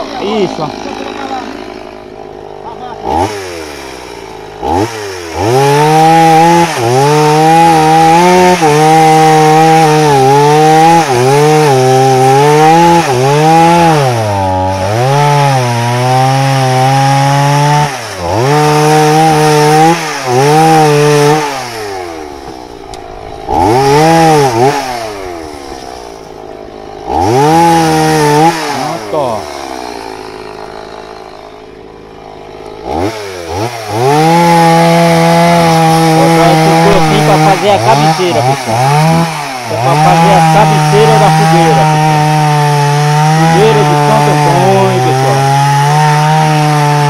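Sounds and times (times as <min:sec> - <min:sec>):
chainsaw cutting wood: 0:00.0 - 0:47.0.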